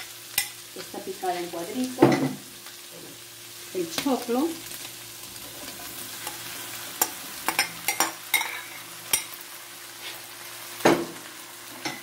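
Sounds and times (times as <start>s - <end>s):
frying pan sizzling: 0.0s - 12.0s.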